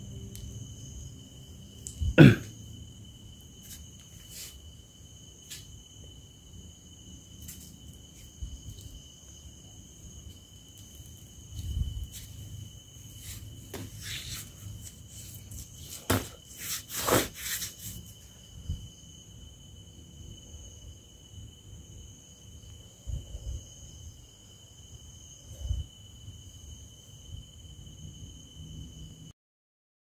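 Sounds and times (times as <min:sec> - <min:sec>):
night insects trilling: 0:00.0 - 0:29.3.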